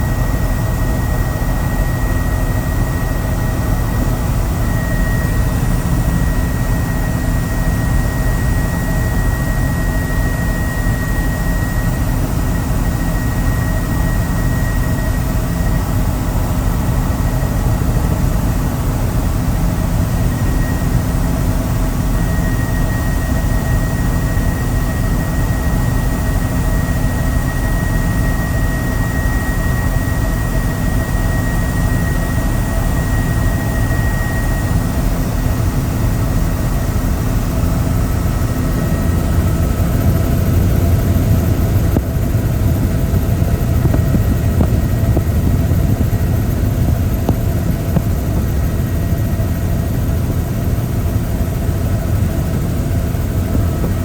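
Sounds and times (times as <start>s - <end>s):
helicopter rotor and turbine rumble: 0.0s - 54.0s
high whine: 0.0s - 54.0s.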